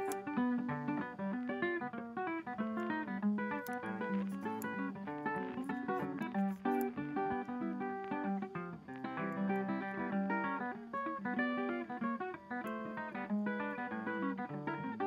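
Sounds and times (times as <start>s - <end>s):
plucked guitar notes: 0.0s - 15.0s.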